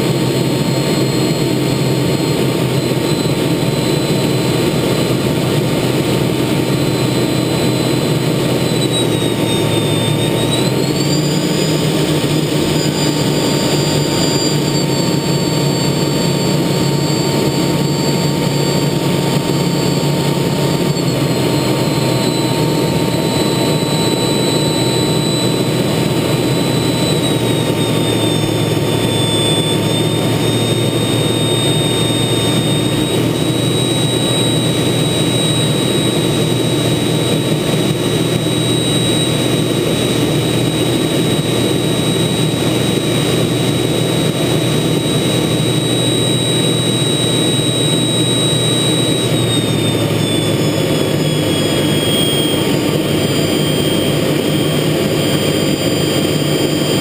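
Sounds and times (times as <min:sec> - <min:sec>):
jet engine roar with high whine: 0:00.0 - 0:57.0.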